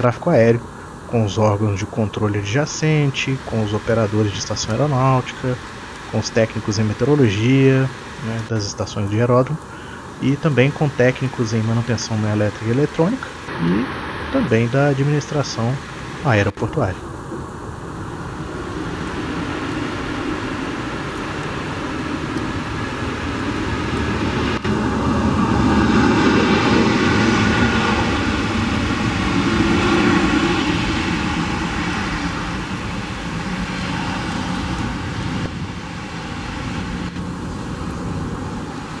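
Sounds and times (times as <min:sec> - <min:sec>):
jet engines rushing: 0:00.0 - 0:39.0.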